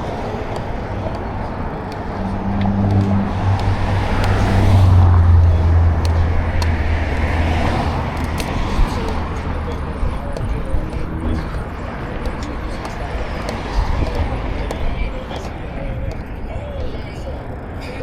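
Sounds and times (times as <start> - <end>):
car passing: 0.0 - 18.0
wind and riding noise: 0.0 - 18.0.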